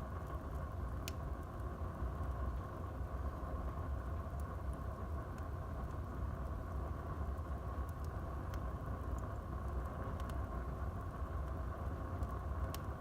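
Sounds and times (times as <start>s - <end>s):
wood fire burning: 0.0s - 13.0s.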